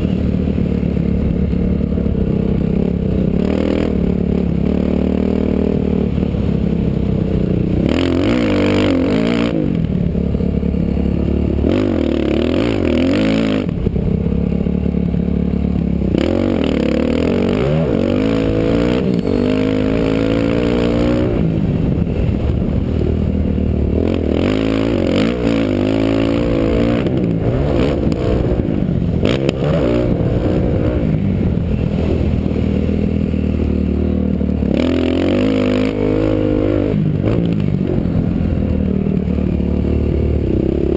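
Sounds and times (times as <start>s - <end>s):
dirt bike engine revving: 0.0s - 6.8s, 7.4s - 40.9s.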